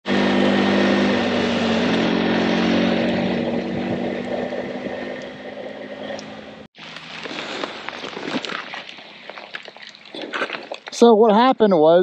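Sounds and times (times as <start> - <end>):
motorcycle engine cruising: 0.0 - 10.4
tyre noise on wet road: 0.0 - 11.1
wind noise: 0.2 - 10.8.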